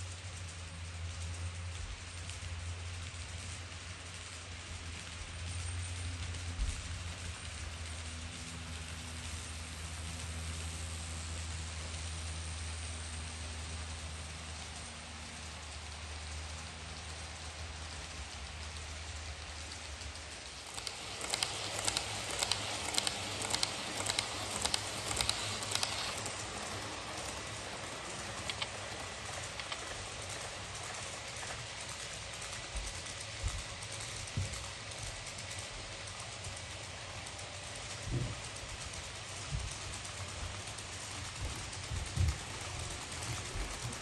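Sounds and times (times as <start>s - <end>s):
model train hum: 0.0s - 44.0s
wheels clicking over rail joints: 0.0s - 44.0s.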